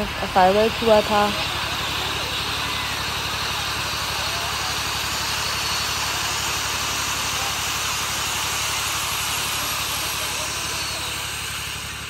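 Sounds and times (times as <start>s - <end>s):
spark fountains hissing: 0.0s - 12.0s.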